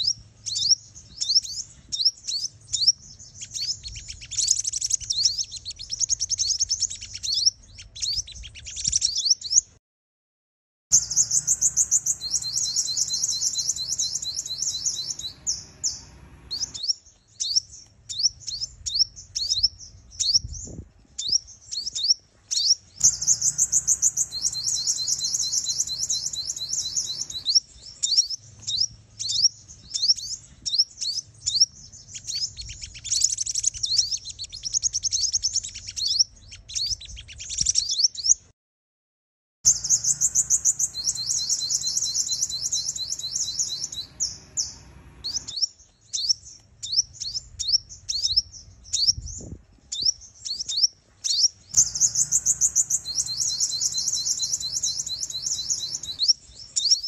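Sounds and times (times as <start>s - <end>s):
bird chirps and twittering trills: 0.0s - 9.8s, 10.9s - 38.4s, 39.7s - 57.0s.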